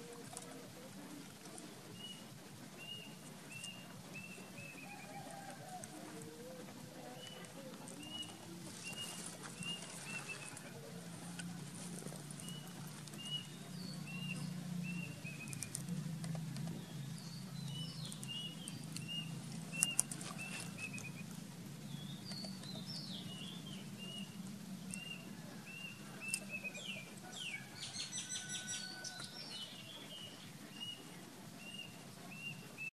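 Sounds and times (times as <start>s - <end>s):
steady low hum: 0.0s - 28.1s
bird chirping: 1.5s - 32.9s.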